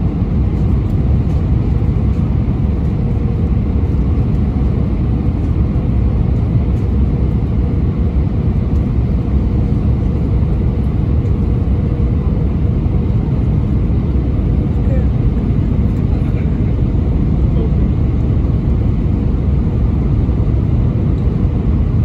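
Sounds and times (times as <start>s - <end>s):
aircraft engine and airflow rumble: 0.0s - 22.0s.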